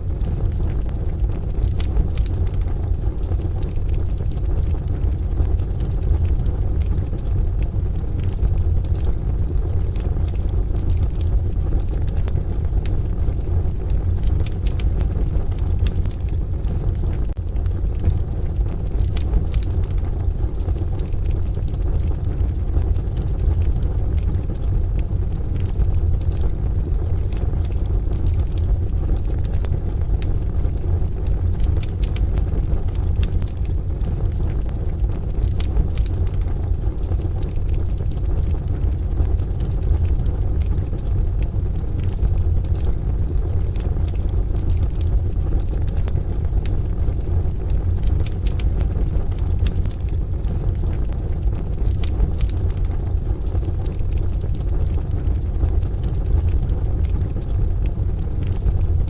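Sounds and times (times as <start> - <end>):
rain rumble: 0.0 - 59.0
wood stove fire crackling: 0.0 - 59.0.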